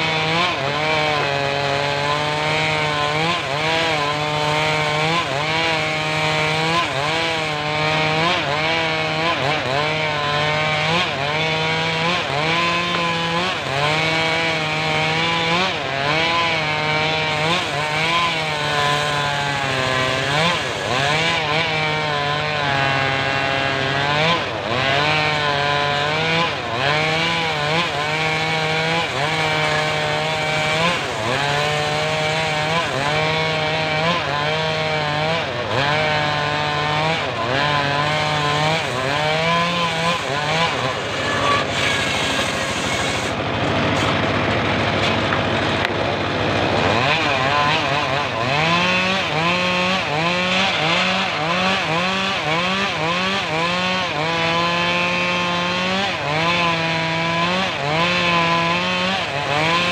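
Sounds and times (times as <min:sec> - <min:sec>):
engine-driven sawmill cutting log: 0:00.0 - 0:59.9.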